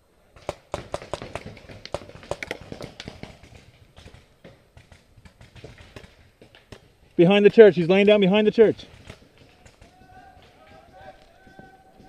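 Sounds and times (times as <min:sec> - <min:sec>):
rapid sharp cracks and knocks: 0:00.4 - 0:08.2, 0:08.8 - 0:11.7.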